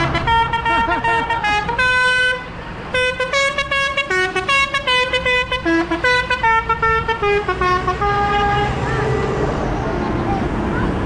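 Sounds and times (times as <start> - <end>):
musical vehicle horn: 0.0 - 9.2.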